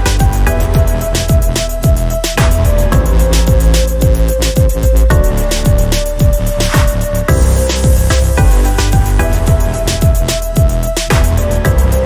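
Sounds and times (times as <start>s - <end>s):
electronic music: 0.0s - 12.0s
kick drum beat: 0.0s - 12.0s.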